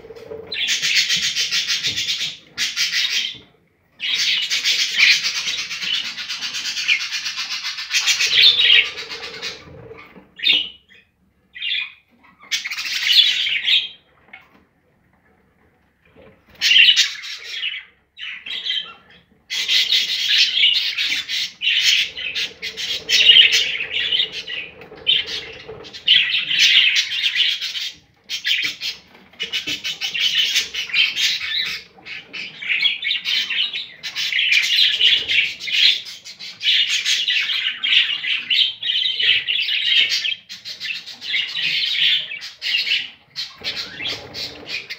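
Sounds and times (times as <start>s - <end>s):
budgerigars chirping and chattering: 0.0s - 14.5s, 16.2s - 44.9s.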